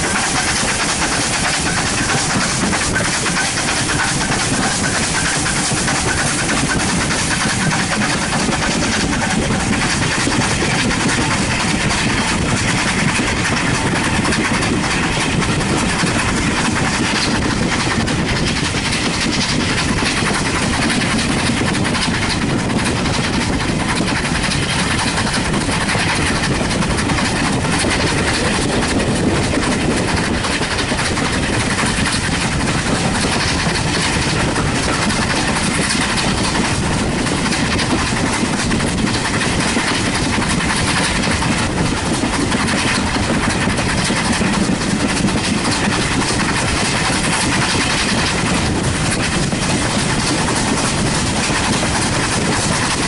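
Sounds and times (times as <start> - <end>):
steam train rumbling: 0.0 - 53.0.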